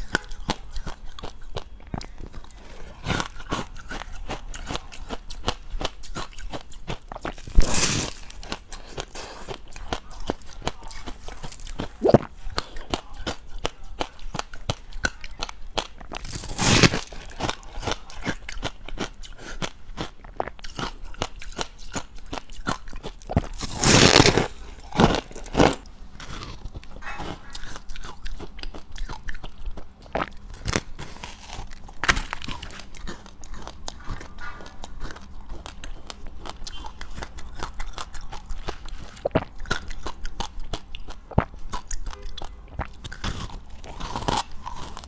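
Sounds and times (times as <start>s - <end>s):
crunching and chewing ice: 0.0s - 45.0s.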